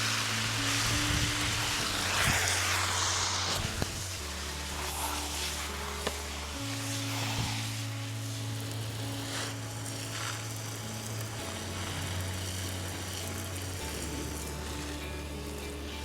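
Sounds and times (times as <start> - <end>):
background music with bass notes: 0.0 - 16.0
garden hose spray hissing: 0.0 - 16.0.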